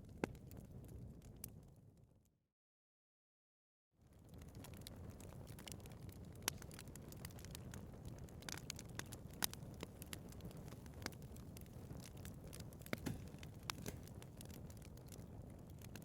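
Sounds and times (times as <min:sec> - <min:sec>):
wood fire rumble: 0:00.0 - 0:01.8, 0:04.0 - 0:16.0
fire crackles and pops: 0:00.0 - 0:02.1, 0:04.0 - 0:16.0.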